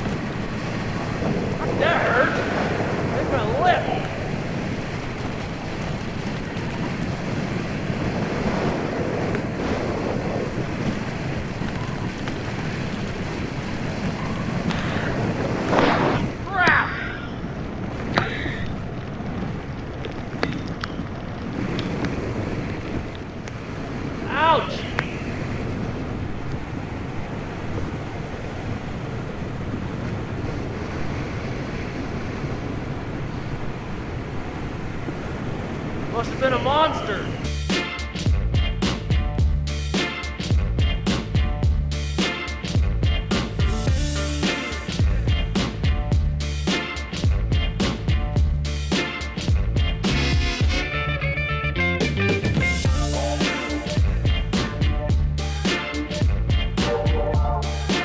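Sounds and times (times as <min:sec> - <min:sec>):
wind rushing over microphone: 0:00.0 - 0:51.1, 0:52.4 - 0:58.0.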